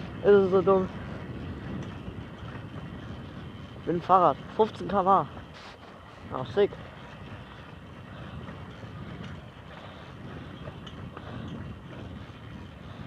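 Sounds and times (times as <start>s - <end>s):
moped engine running: 0.0s - 13.0s.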